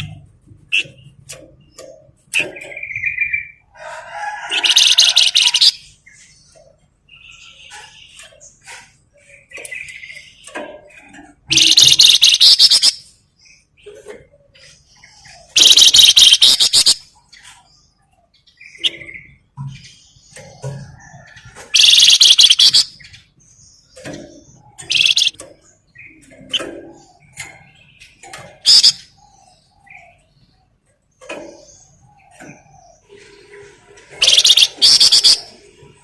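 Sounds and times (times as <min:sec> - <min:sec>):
bird chirps and calls: 0:00.0 - 0:36.0
songbird chattering rattles: 0:00.0 - 0:36.0.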